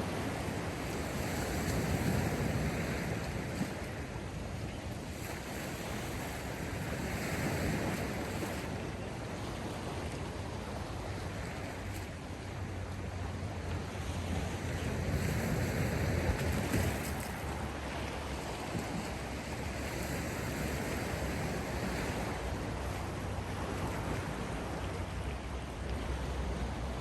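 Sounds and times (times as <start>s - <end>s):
sea waves washing in: 0.0s - 27.0s.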